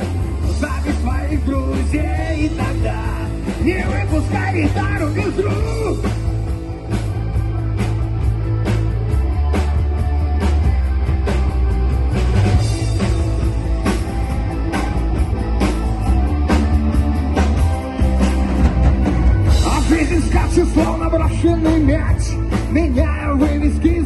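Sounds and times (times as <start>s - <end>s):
drum kit beat: 0.0s - 24.0s
rock band playing: 0.0s - 24.0s.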